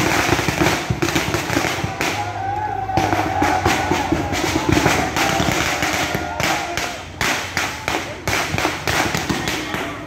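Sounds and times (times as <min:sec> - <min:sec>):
crowd voices: 0:00.0 - 0:10.0
firecrackers cracking: 0:00.0 - 0:10.0.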